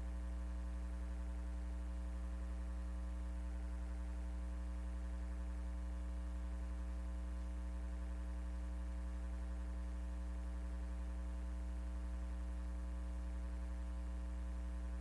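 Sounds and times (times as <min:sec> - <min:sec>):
low electrical mains hum: 0:00.0 - 0:15.0.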